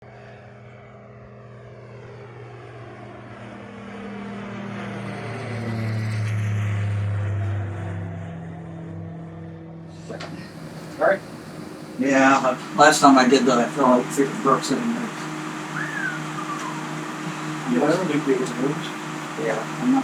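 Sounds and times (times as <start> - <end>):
propeller aeroplane flying past: 0.0 - 20.0.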